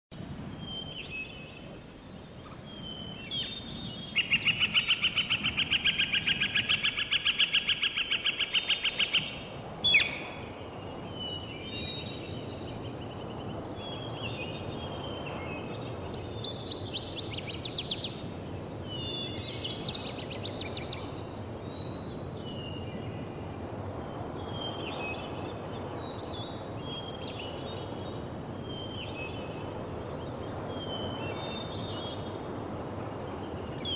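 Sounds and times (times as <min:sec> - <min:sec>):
outdoor ambience: 0:00.1 - 0:33.9.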